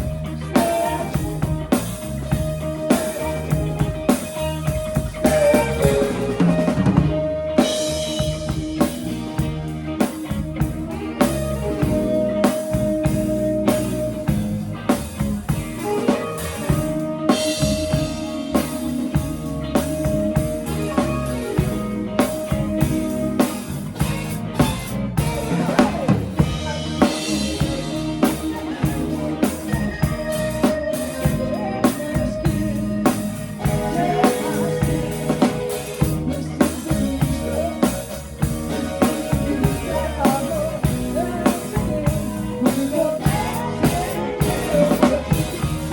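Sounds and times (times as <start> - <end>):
band music: 0.0 - 45.9
drum kit beat: 0.0 - 45.9.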